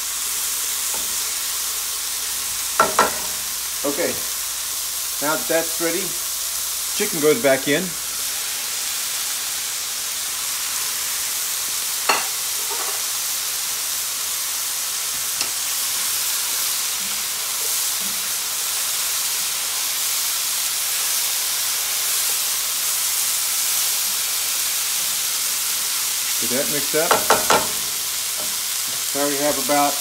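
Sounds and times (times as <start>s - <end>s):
food sizzling in a skillet: 0.0s - 30.0s.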